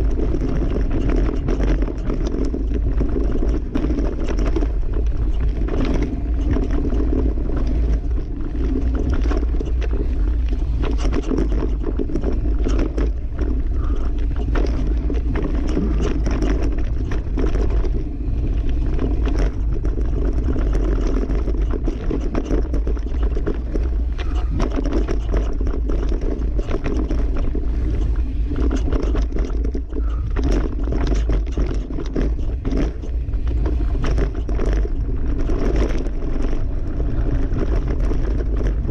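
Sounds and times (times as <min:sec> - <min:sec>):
bike rattling over bumps: 0:00.0 - 0:38.9
tyres scraping over dirt: 0:00.0 - 0:38.9
wind rumble on microphone: 0:00.0 - 0:38.9.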